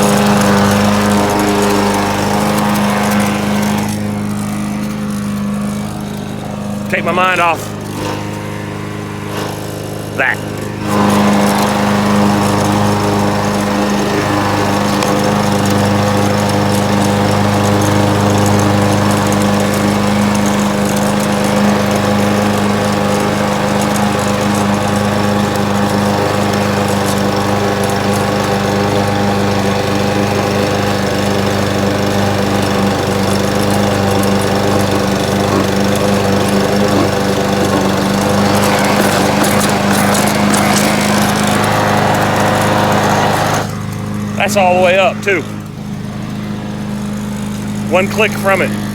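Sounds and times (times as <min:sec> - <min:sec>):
push lawn mower running: 0:00.0 - 0:48.9.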